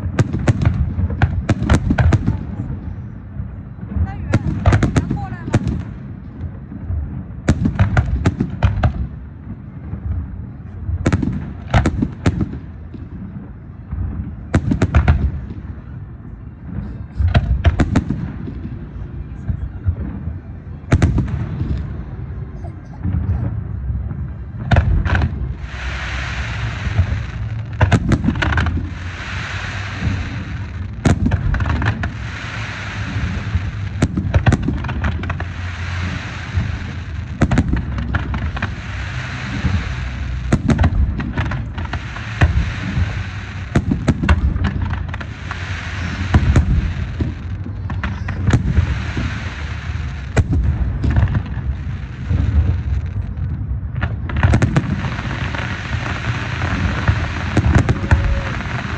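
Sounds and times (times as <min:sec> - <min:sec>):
fireworks bangs: 0:00.0 - 0:58.9
low rumble: 0:00.0 - 0:58.9.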